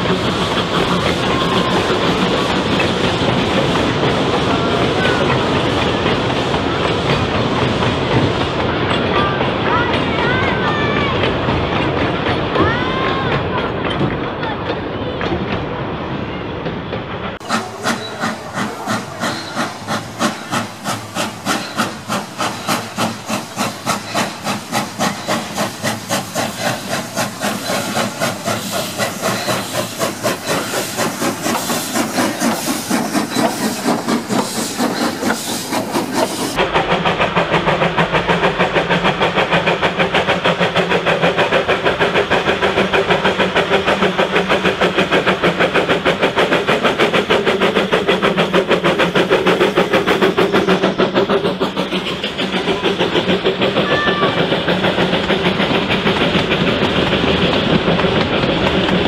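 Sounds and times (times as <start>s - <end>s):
steam hissing: 0.0s - 12.1s, 17.3s - 59.0s
steam locomotive chuffing: 0.0s - 59.0s.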